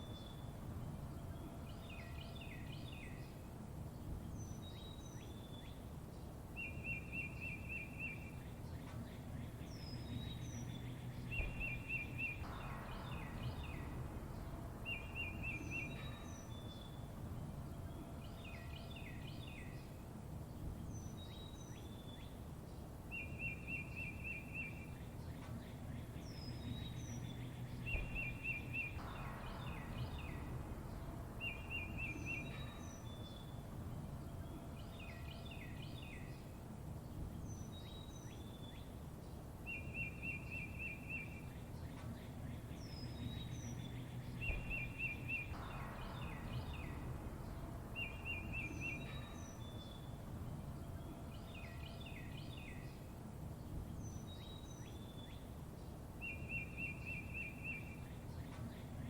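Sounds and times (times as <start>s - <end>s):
low background hiss: 0.0s - 59.0s
songbirds chirping: 0.0s - 59.0s.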